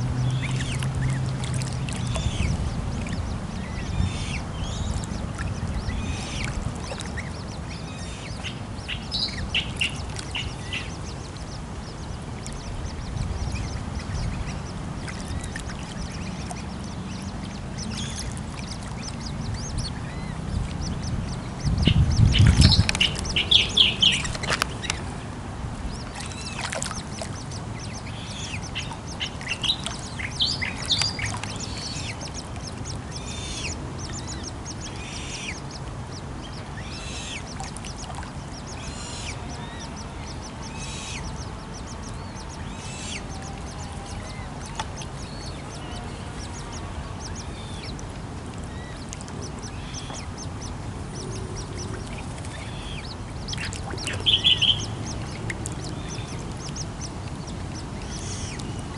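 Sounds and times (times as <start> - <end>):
low rumble: 0.0 - 58.9
waterbirds calling: 0.0 - 58.9.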